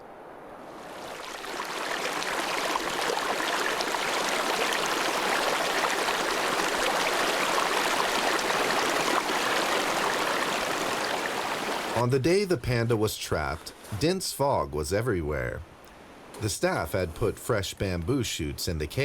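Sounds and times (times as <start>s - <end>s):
stream water rushing: 0.6s - 18.8s.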